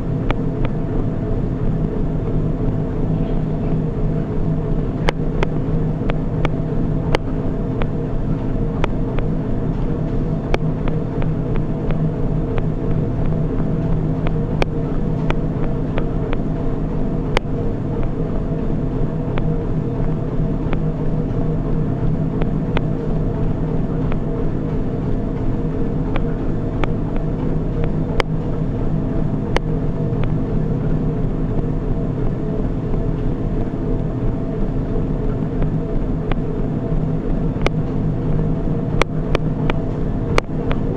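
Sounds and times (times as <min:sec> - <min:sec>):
treadmill motor and belt humming: 0:00.0 - 0:40.9.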